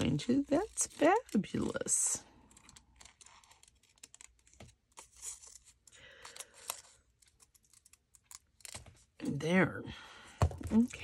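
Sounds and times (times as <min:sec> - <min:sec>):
scissors snipping paper: 0:00.0 - 0:08.9
paper rustling: 0:00.0 - 0:09.1.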